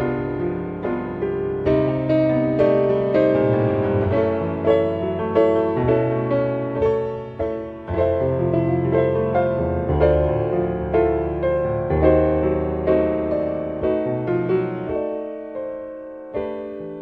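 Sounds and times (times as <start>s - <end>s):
slow gentle piano piece: 0.0s - 17.0s.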